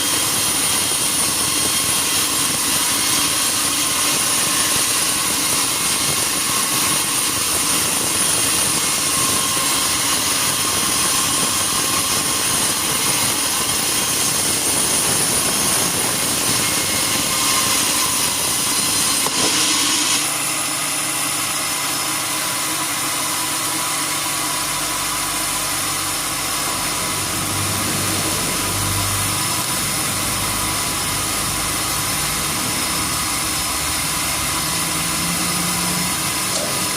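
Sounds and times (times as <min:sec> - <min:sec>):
sawmill machinery hissing and whining: 0:00.0 - 0:36.9.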